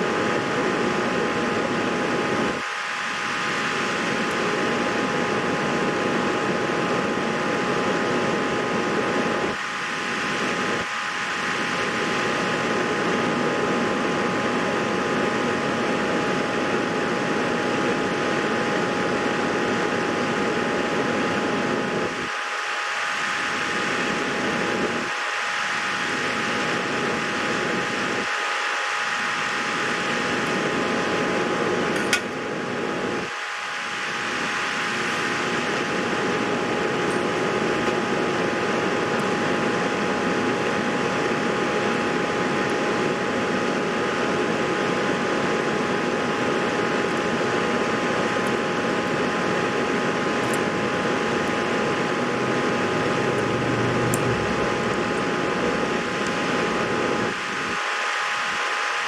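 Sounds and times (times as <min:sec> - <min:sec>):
fan-like machine whirring: 0:00.0 - 0:59.0.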